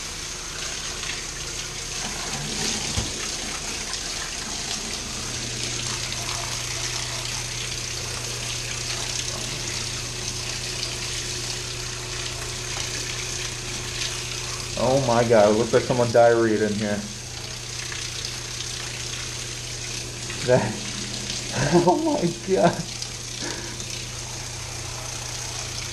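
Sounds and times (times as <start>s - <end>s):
shower water spraying: 0.0s - 25.9s.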